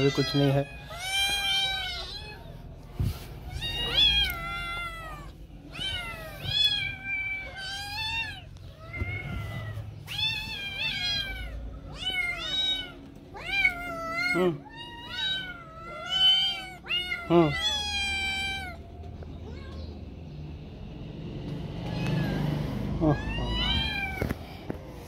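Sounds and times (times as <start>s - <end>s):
kittens meowing: 0.0s - 20.2s, 21.7s - 25.0s.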